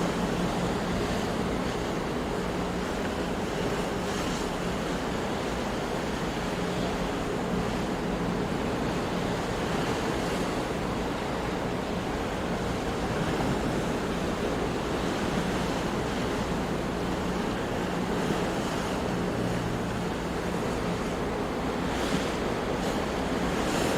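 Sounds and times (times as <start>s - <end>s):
ocean waves washing: 0.0s - 23.9s.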